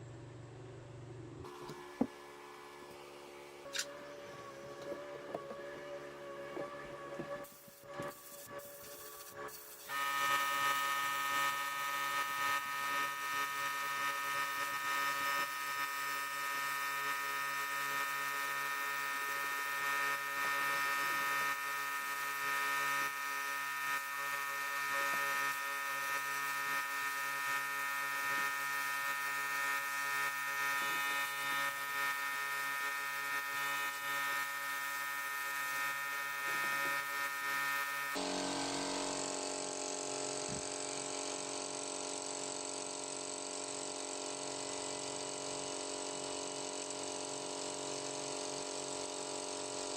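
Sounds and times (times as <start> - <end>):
electric power tool motor whining: 1.5 - 49.9.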